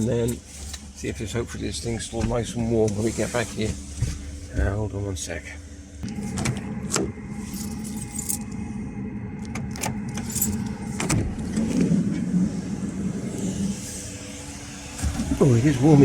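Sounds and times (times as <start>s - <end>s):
low vehicle hum: 0.0s - 16.0s.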